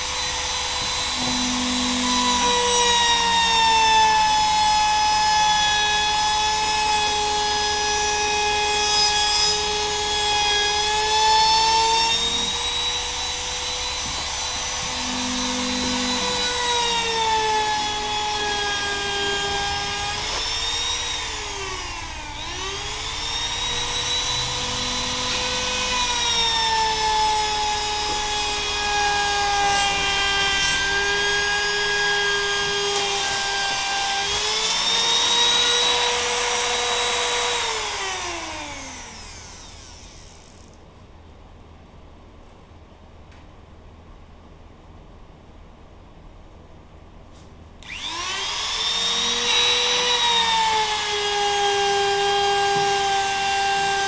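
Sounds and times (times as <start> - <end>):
trimmer router whining: 0.0 - 40.8, 47.8 - 54.0.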